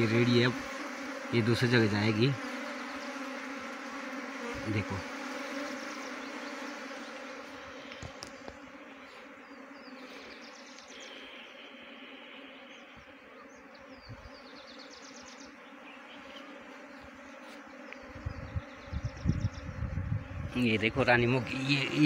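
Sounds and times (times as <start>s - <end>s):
bee swarm buzzing: 0.0s - 22.0s.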